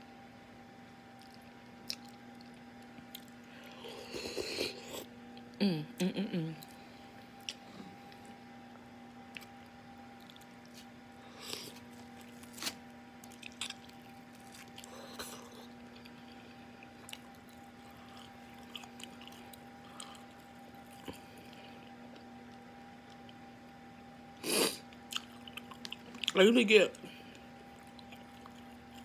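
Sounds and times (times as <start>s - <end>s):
faint steady hum: 0.0s - 29.0s
person chewing food: 1.1s - 5.6s, 6.5s - 8.4s, 9.3s - 23.5s, 24.5s - 29.0s.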